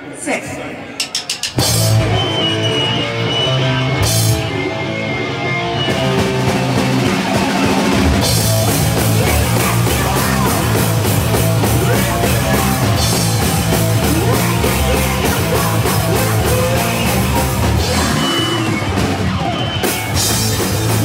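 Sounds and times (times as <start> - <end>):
punk band playing live: 1.0 - 21.0.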